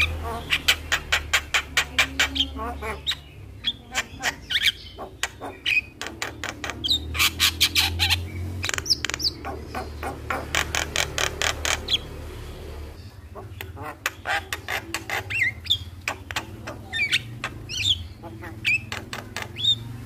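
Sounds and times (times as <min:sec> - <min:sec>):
myna bird chattering song: 0:00.0 - 0:20.0.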